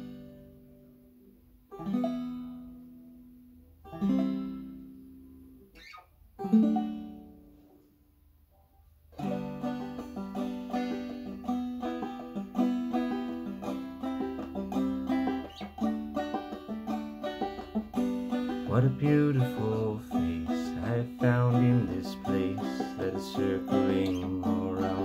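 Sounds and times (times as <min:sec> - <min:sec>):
banjo strumming: 0:00.0 - 0:01.0, 0:01.7 - 0:05.6, 0:06.4 - 0:07.9, 0:09.1 - 0:25.0.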